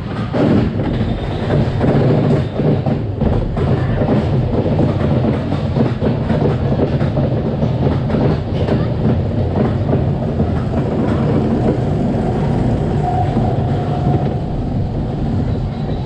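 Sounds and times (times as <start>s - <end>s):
roller coaster wheels rumbling: 0.0s - 16.0s.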